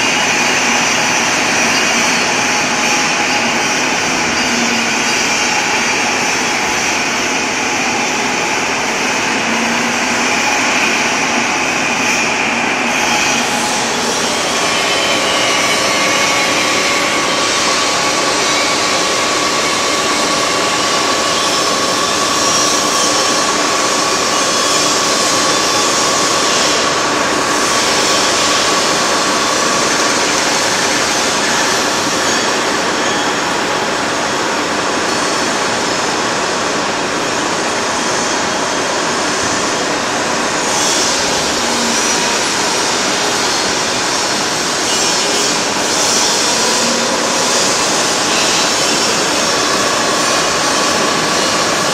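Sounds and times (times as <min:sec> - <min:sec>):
heavy industrial machinery running: 0:00.0 - 0:51.9
thin steady whine: 0:00.0 - 0:51.9.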